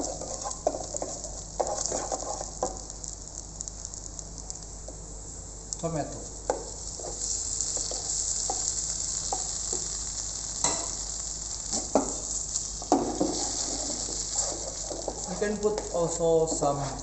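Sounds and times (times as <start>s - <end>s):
tomatoes sizzling in a pan: 0.0s - 17.0s.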